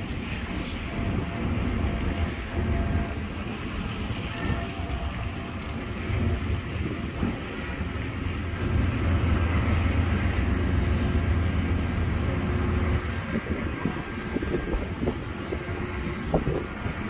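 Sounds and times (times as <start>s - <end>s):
low buffeting: 0.0s - 17.0s
train passing rumble: 0.0s - 17.0s.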